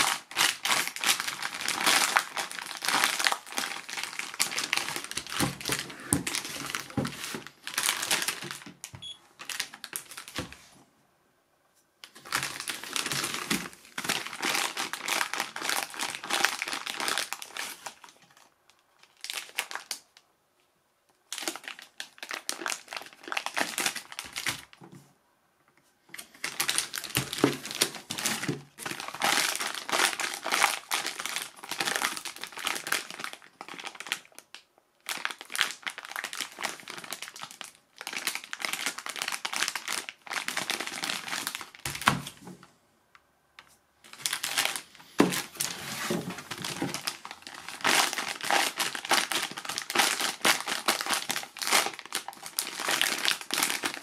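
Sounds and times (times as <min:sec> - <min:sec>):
plastic bags crinkling: 0:00.0 - 0:10.7, 0:12.0 - 0:20.0, 0:21.3 - 0:24.8, 0:26.1 - 0:42.6, 0:44.0 - 0:54.0.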